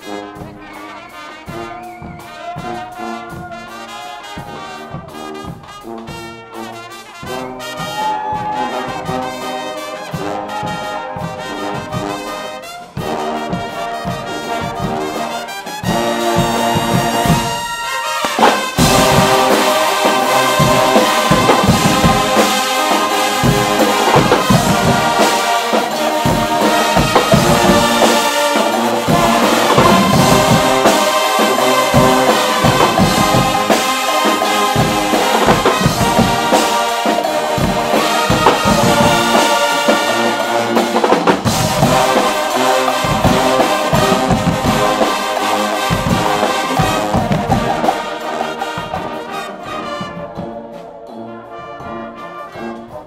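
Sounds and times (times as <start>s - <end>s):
drums and cymbals beat: 0.0s - 51.2s
brass band playing loud: 0.0s - 53.0s.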